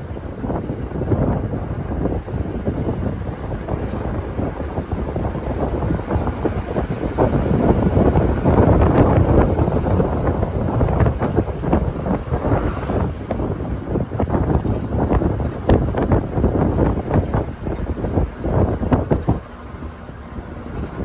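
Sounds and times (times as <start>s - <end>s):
low road rumble: 0.0s - 21.0s
wind buffeting microphone: 0.0s - 21.0s.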